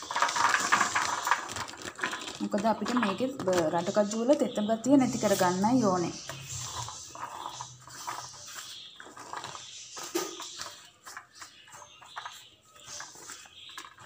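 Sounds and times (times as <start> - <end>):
paper tissue crinkling: 0.0 - 14.0.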